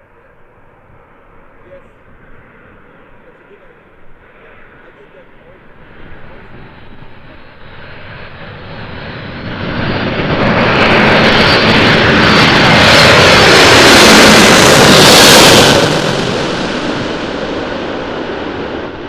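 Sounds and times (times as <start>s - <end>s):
high jet whine: 0.0s - 19.0s
jet engines roaring: 0.0s - 19.0s.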